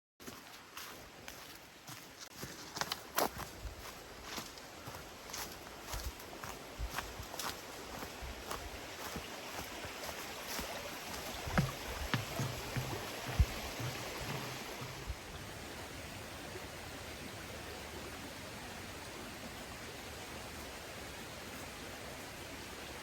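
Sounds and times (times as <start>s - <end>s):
rushing water noise: 0.2s - 23.0s.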